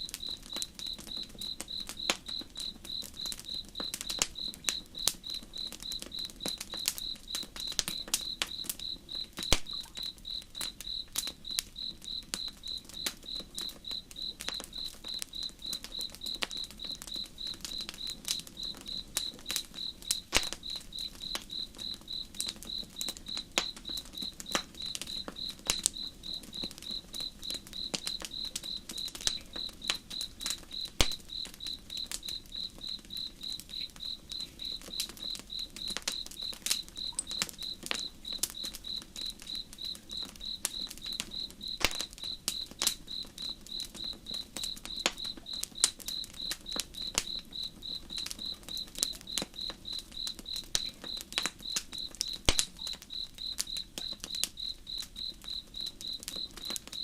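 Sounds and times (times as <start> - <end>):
campfire crackling and popping: 0.0 - 57.0
crickets chirping: 0.0 - 57.0.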